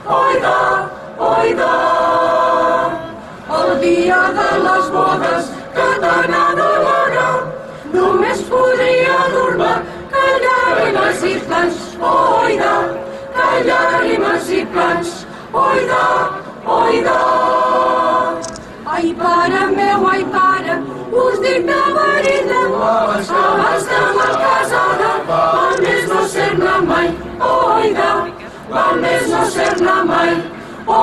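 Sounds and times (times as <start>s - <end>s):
mixed choir singing: 0.0s - 31.0s.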